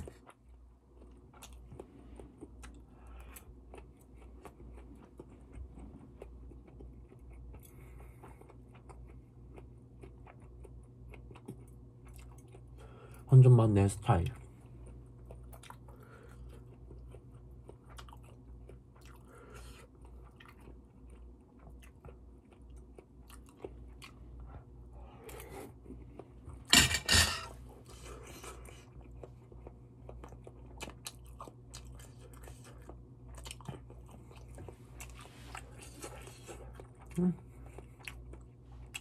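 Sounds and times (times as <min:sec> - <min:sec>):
person chewing with crunches: 0:00.0 - 0:13.3, 0:14.3 - 0:26.8, 0:27.5 - 0:39.0
steady low hum: 0:00.0 - 0:39.0.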